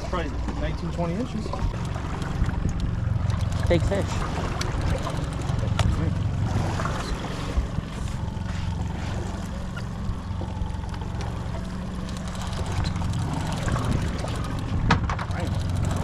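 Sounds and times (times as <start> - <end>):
boat motor humming: 0.0 - 16.0
water noise: 0.0 - 16.0.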